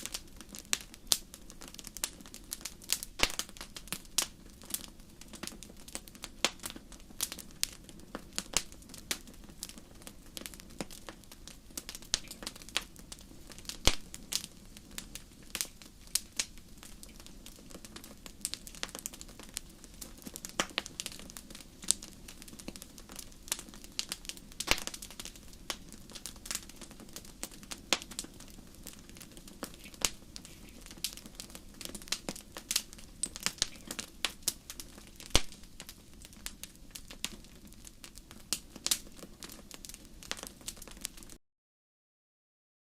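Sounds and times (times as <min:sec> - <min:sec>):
soft steady hiss: 0:00.0 - 0:41.3
wood fire crackling: 0:00.0 - 0:41.4.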